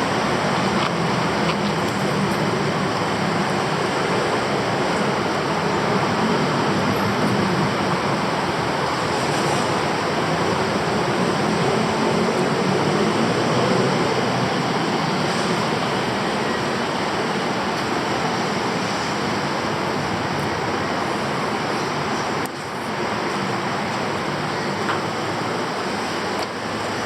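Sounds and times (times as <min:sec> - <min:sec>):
city traffic roar: 0:00.0 - 0:27.0.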